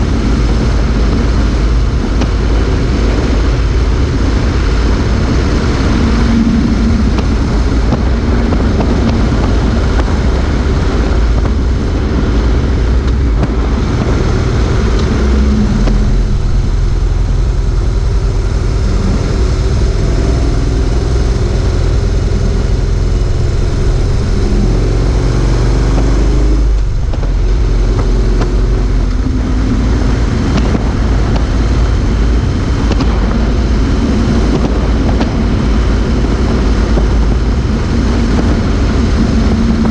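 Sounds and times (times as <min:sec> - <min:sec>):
motorcycle engine: 0:00.0 - 0:39.9
tyre noise on road: 0:00.0 - 0:39.9
wind rush on microphone: 0:00.0 - 0:39.9.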